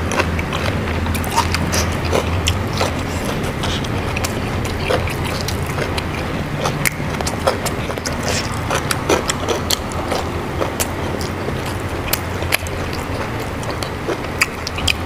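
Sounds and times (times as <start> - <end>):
crunchy chewing: 0.0 - 15.0
steady low hum: 0.0 - 15.0.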